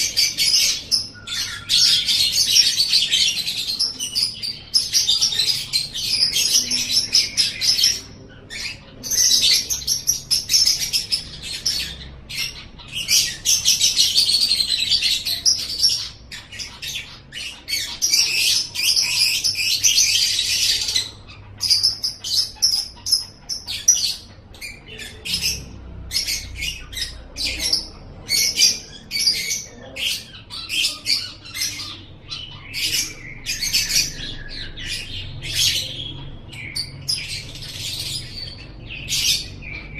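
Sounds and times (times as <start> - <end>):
lovebird chattering and chirping: 0.0 - 39.9.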